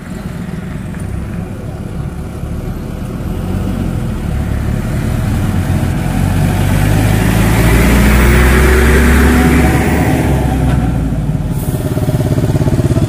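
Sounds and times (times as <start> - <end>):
truck diesel engine rumble: 0.0 - 13.0
tyre noise on road: 0.0 - 13.0.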